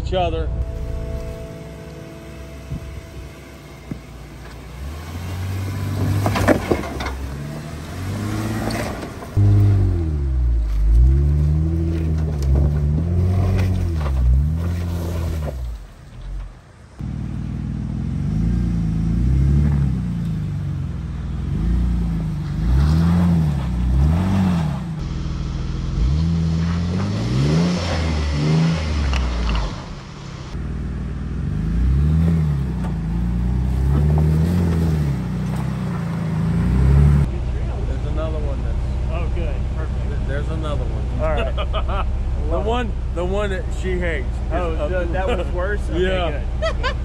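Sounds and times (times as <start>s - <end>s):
car engine revving: 0.5s - 47.0s.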